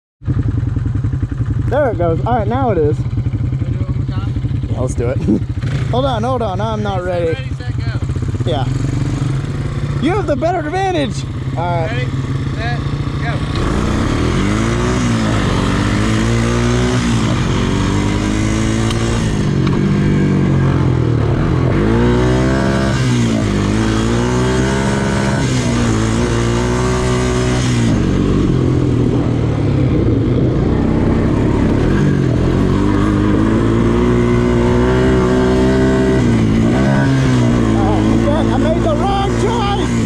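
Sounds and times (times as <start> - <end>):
atv engine revving: 0.2 - 40.0.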